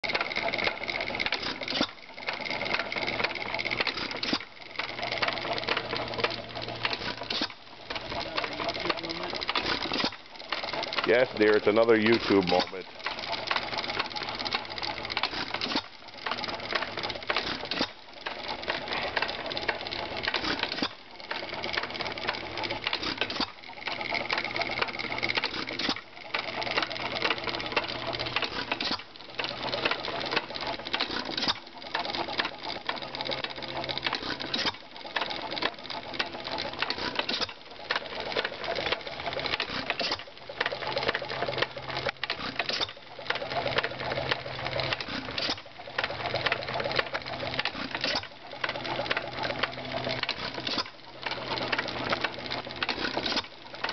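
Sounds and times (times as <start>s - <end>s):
gas engine clattering: 0.0s - 53.9s.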